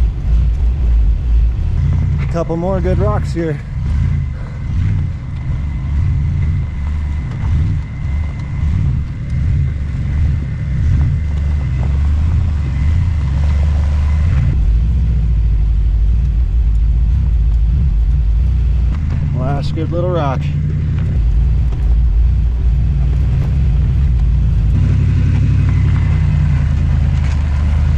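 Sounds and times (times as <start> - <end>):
van engine rumbling at low speed: 0.0 - 27.9.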